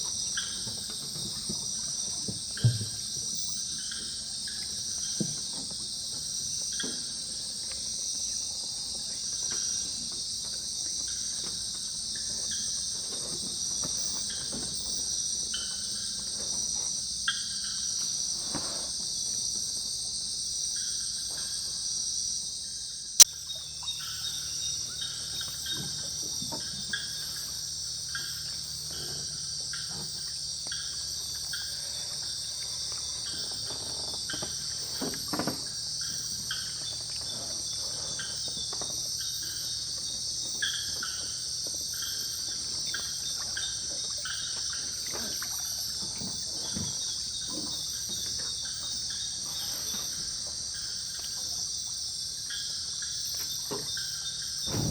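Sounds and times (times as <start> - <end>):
crickets trilling: 0.0 - 54.9
low insect chirps: 0.0 - 54.9.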